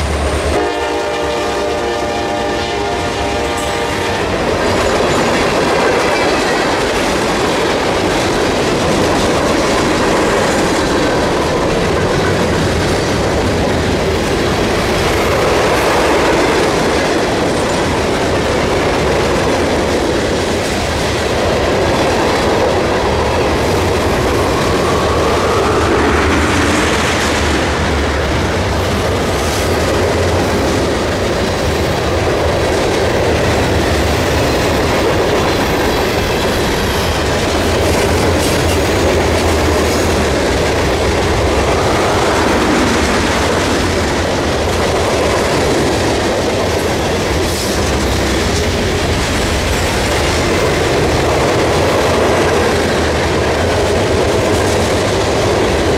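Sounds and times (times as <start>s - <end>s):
train wheels clattering on rails: 0.0s - 55.9s.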